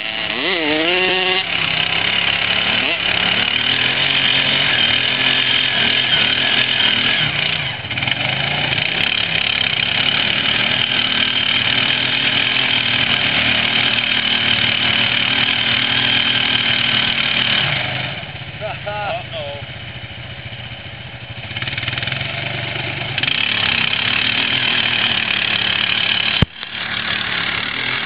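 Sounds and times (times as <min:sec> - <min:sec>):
atv engines running: 0:00.0 - 0:28.0.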